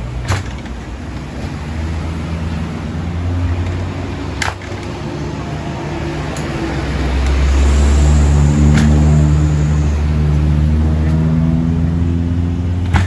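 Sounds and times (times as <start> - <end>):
motorcycle engine revving and running: 0.0 - 13.0.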